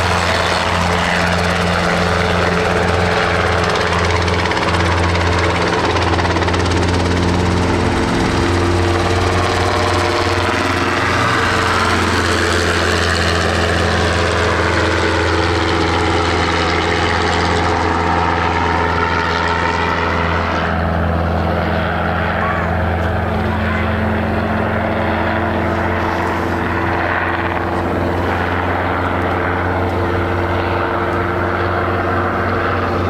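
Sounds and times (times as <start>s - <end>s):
helicopter flying overhead: 0.0s - 33.0s.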